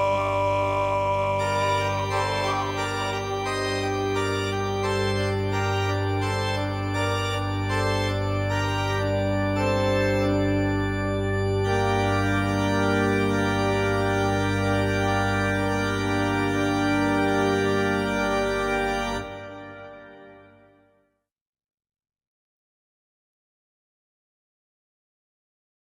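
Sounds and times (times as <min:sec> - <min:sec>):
instrumental music sustained chords: 0:00.0 - 0:20.8.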